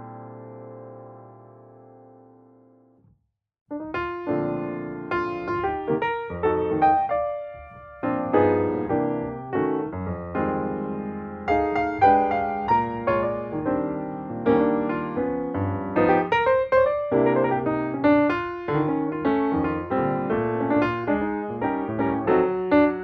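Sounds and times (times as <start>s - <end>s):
solo piano music: 0.0s - 3.0s, 3.7s - 23.0s.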